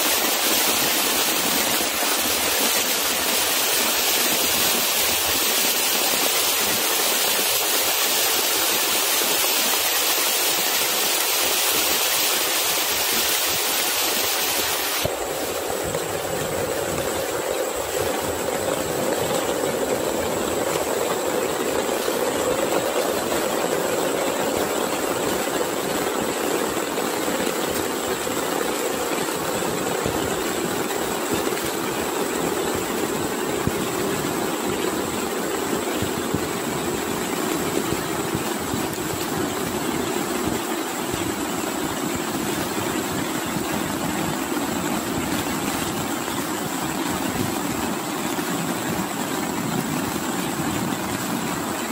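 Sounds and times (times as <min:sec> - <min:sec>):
heavy rain on grass and leaves: 0:00.0 - 0:51.9.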